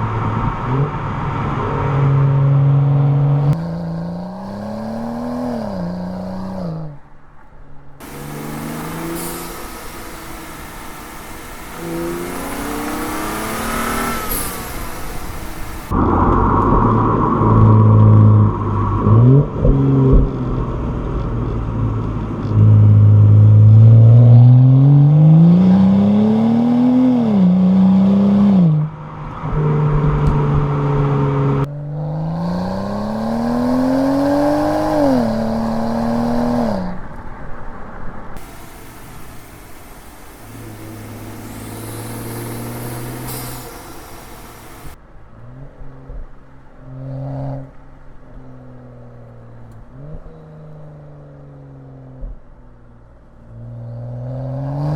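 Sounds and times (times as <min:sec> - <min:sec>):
car engine accelerating: 0:00.0 - 0:07.1, 0:08.0 - 0:37.2, 0:38.3 - 0:46.2.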